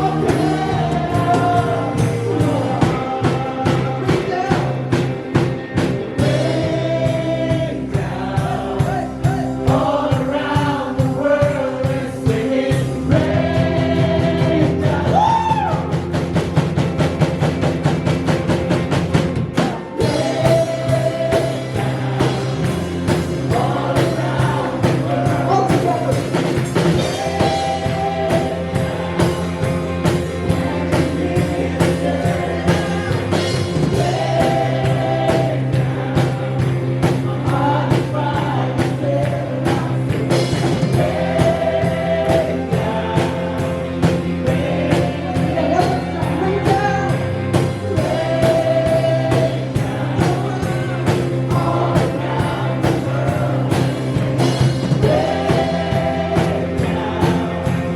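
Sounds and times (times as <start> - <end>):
bass: 0.0 - 57.9
drums beating: 0.0 - 57.9
keyboard chords: 0.0 - 57.9
people singing: 0.0 - 57.9.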